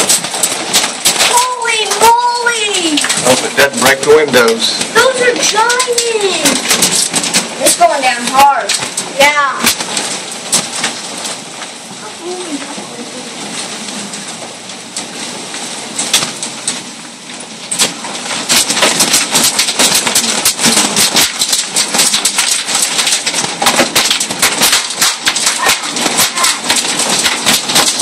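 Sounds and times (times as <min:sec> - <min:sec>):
hailstones clattering: 0:00.0 - 0:28.0.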